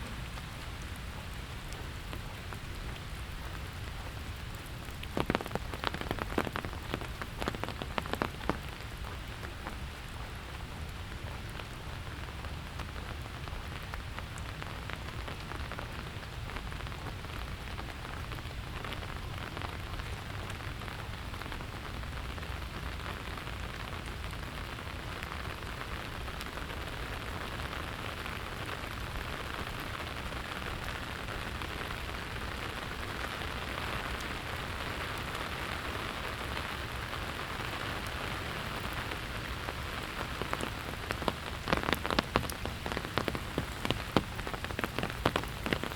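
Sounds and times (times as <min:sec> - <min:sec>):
raindrops ticking: 0:00.0 - 0:45.9
steady rain falling: 0:00.0 - 0:45.9.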